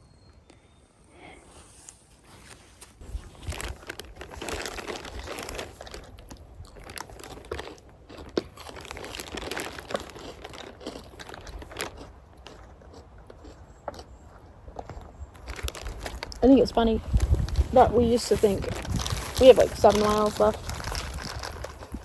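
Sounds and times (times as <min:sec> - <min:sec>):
crunching and crinkling rustles: 0:01.8 - 0:22.0.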